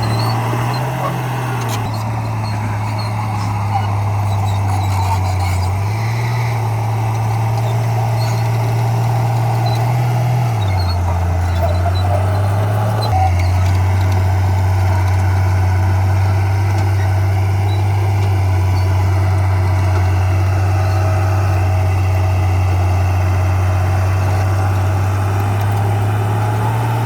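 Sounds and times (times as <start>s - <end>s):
heavy diesel engine drone: 0.0s - 27.0s.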